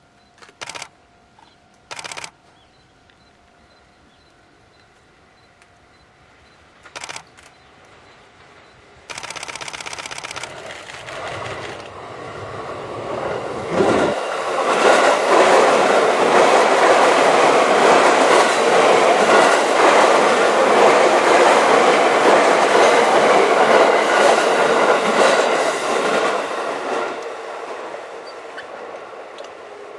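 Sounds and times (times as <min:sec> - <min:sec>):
train passing: 0:01.9 - 0:29.9.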